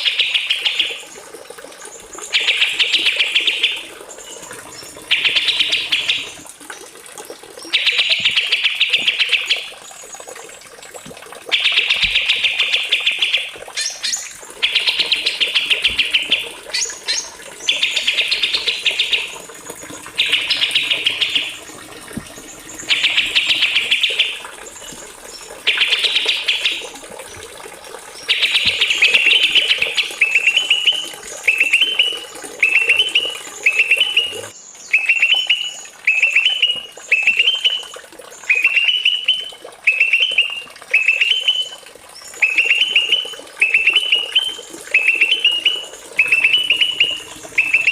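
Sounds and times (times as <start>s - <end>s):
songbird singing: 2.2s - 6.4s, 7.6s - 9.7s, 11.5s - 27.0s, 28.2s - 47.9s.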